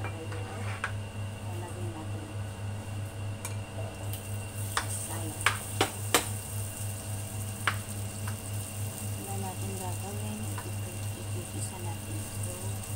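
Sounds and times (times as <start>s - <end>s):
induction cooktop humming: 0.0s - 12.9s.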